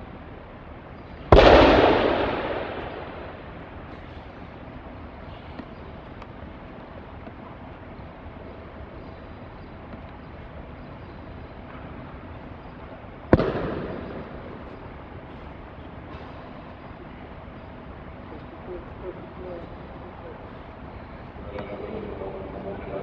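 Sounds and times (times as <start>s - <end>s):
tape hiss: 0.0s - 23.0s.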